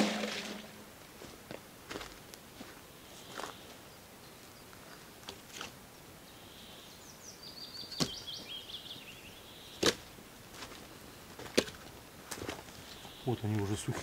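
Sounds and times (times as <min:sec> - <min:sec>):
songbird chirping: 0:01.9 - 0:14.0.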